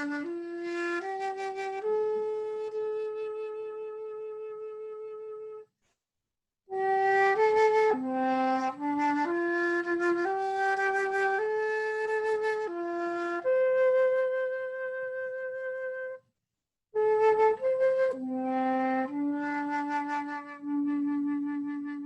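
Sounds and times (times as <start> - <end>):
solo flute melody: 0.0 - 5.8, 6.7 - 16.3, 16.9 - 22.0.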